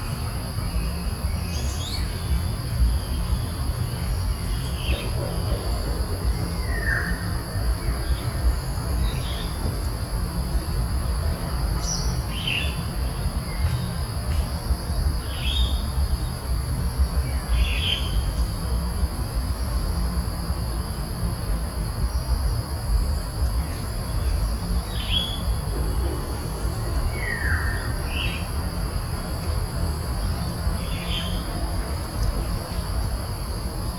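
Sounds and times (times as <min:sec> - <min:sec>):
high insect drone: 0:00.0 - 0:33.9.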